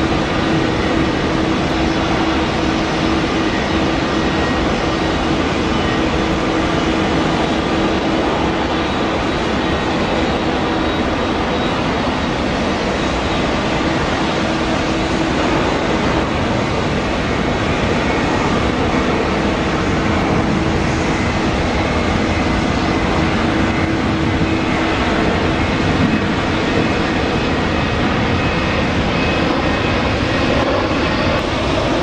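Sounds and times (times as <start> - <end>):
jet engines running loud: 0.0 - 32.0.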